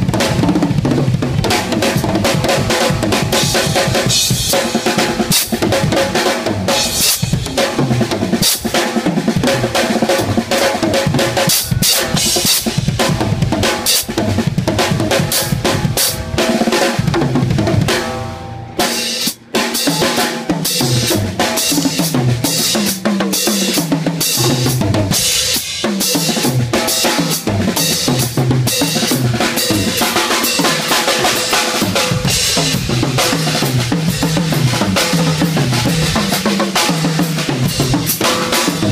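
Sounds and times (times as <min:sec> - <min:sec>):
drum kit solo: 0:00.0 - 0:38.9.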